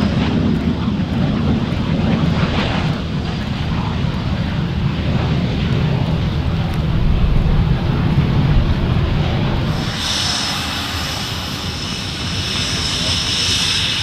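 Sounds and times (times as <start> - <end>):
loud steady jet rumble: 0.0 - 14.0.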